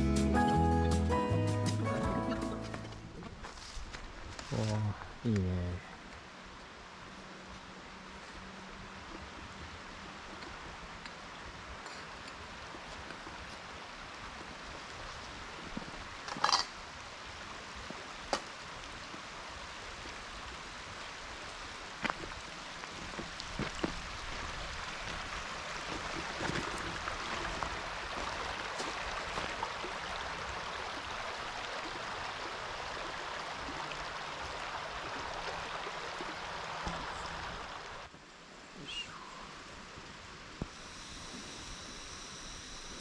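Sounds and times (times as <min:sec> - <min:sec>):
river rushing: 0:05.1 - 0:41.3.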